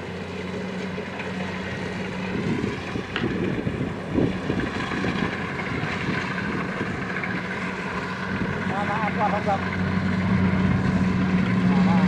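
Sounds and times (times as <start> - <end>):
diesel engine humming: 0.0 - 12.0
wind buffeting microphone: 1.6 - 11.6.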